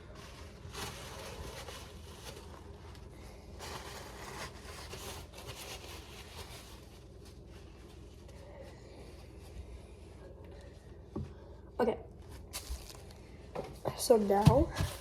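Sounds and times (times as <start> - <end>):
rubbing and scraping handling noise: 0.0 - 11.5, 12.2 - 15.0.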